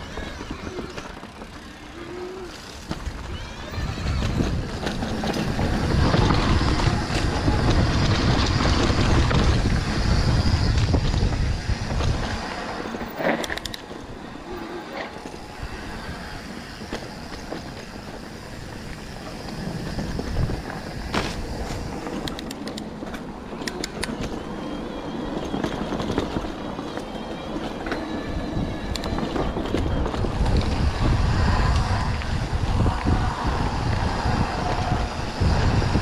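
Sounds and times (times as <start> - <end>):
bike tyres rumbling on dirt: 0.0 - 22.3, 28.0 - 36.0
wind on microphone: 0.0 - 22.6, 27.5 - 36.0
bike clicks and rattles: 0.0 - 36.0.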